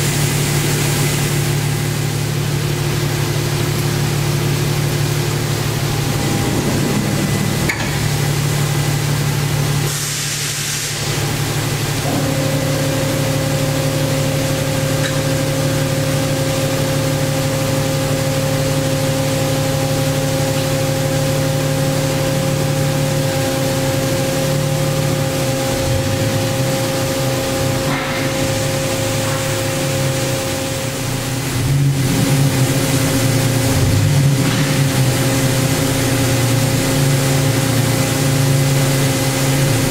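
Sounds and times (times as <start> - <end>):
machine humming with steady tones: 0.0 - 39.9.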